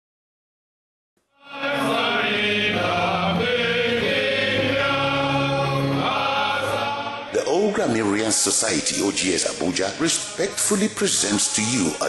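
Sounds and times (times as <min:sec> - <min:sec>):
choir singing: 0:01.3 - 0:12.0.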